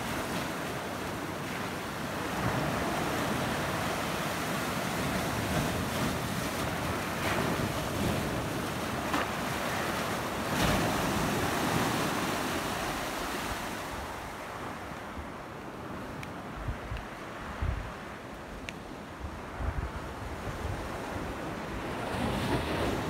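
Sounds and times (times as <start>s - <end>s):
sea waves washing over rocks: 0.0s - 14.9s, 19.1s - 23.0s.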